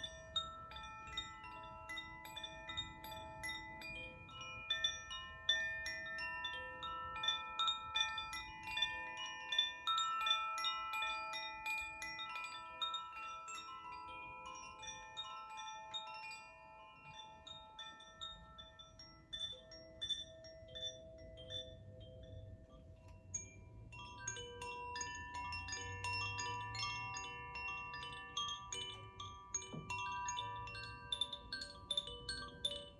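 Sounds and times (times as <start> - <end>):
wind chimes ringing: 0.0 - 32.9.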